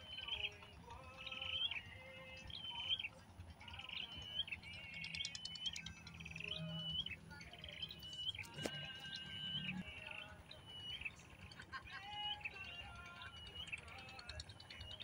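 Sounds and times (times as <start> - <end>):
faint background music: 0.0 - 15.0
small bird chirping: 0.0 - 15.0.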